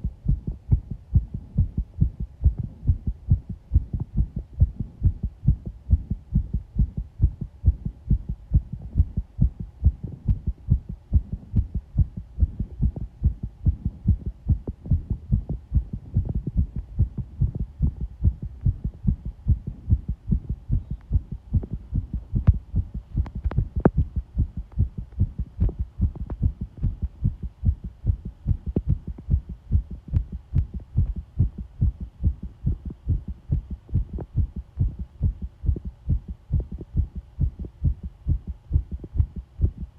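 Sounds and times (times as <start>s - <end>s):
heartbeat thumping: 0.0s - 39.9s.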